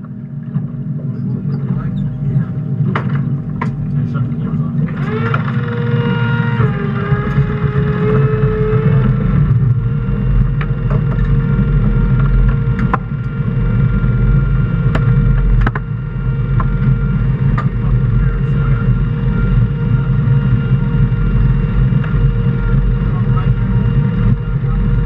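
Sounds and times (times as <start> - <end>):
boat engines droning with whine: 0.0 - 25.0.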